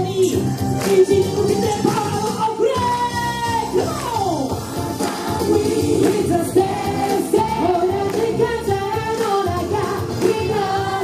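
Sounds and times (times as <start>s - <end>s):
dance-pop backing track: 0.0s - 11.0s.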